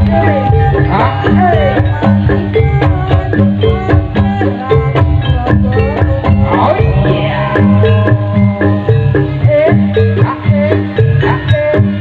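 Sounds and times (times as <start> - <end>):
sliding melody line: 0.0 - 11.9
hand-drum strokes: 0.0 - 12.0
metallophones ringing: 0.0 - 12.0.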